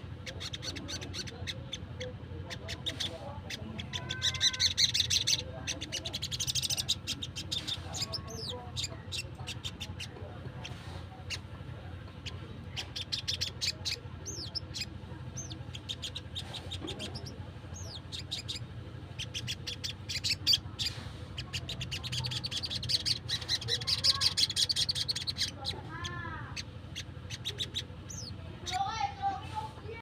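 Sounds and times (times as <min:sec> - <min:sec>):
bird calling with chips and trills: 0:00.0 - 0:30.0.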